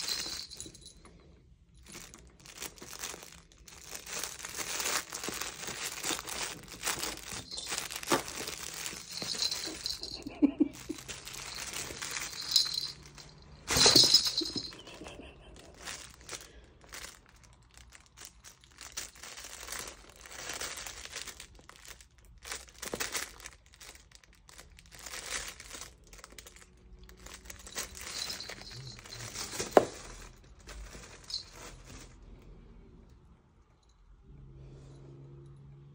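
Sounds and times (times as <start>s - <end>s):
fabric cat toy crinkling: 0.0s - 1.0s, 1.7s - 32.4s.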